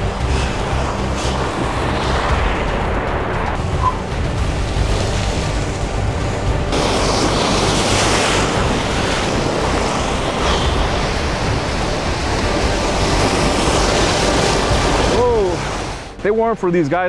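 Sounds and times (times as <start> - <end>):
surf washing over rocks: 0.0 - 16.1.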